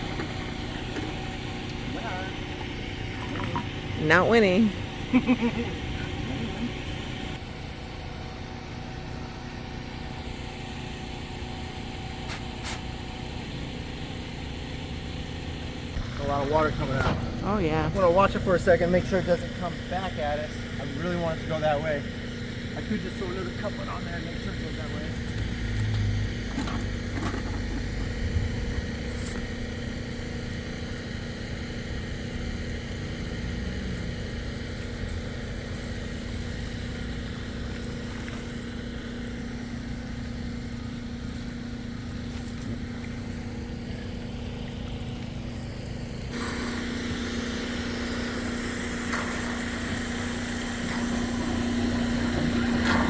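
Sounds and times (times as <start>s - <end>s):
pump motor humming: 0.0s - 53.0s.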